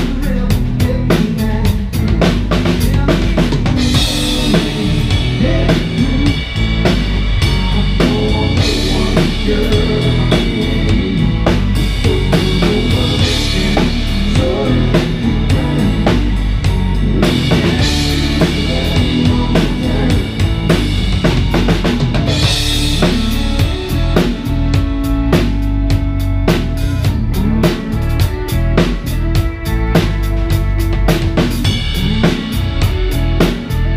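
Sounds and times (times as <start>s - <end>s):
drum kit beat: 0.0s - 33.9s
electric guitar: 0.0s - 33.9s.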